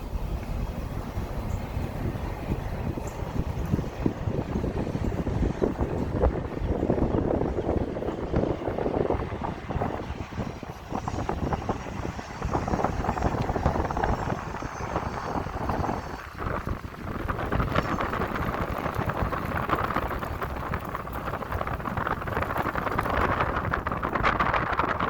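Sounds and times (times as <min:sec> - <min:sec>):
steady low rumble: 0:00.0 - 0:25.0
wind buffeting microphone: 0:00.0 - 0:25.0.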